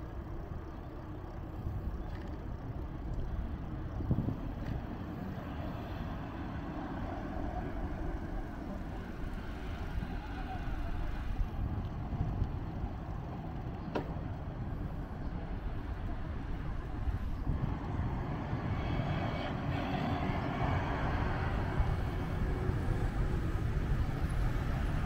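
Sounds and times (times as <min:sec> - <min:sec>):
city ambience rumble: 0:00.0 - 0:25.0.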